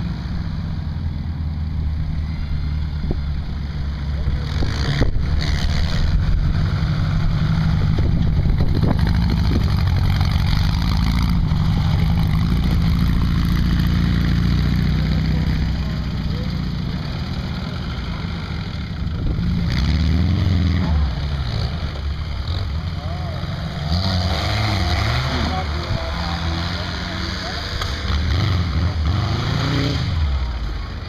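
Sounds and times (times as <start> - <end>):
car engine revving: 3.0 - 31.0.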